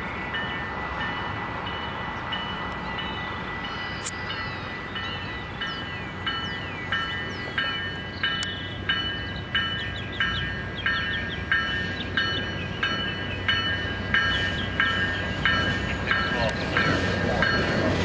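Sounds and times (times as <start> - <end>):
crossing bell ringing: 0.0 - 18.0
train rumble: 0.0 - 18.0.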